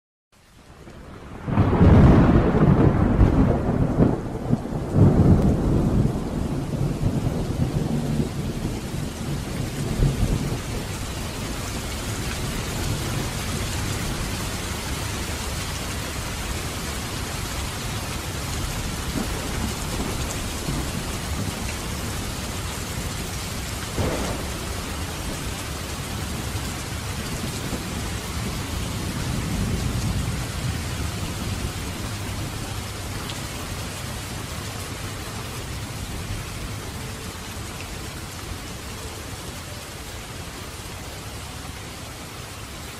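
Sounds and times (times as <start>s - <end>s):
steady rain falling: 0.4s - 42.9s
low thunder rumbling: 1.0s - 37.5s.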